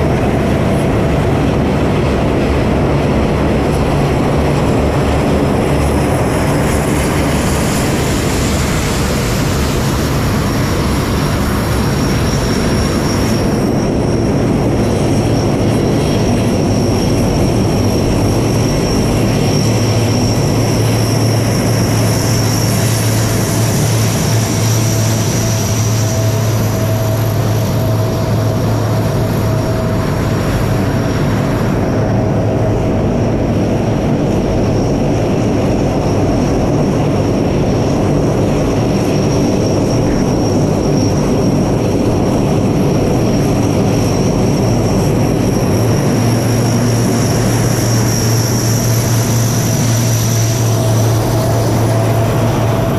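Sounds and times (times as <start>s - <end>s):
propeller drone: 0.0s - 52.9s
rushing noise: 0.0s - 52.9s
turbine whine: 0.0s - 52.9s.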